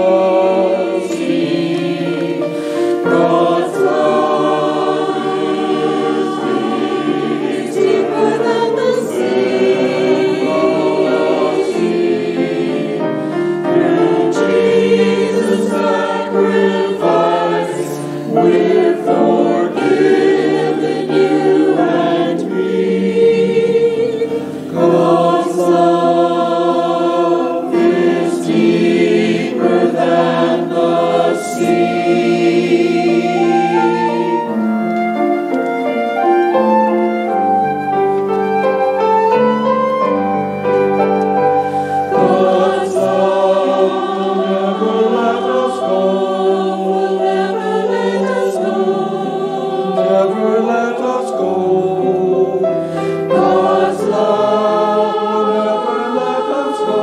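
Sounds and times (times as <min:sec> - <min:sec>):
church choir singing: 0:00.0 - 0:57.0.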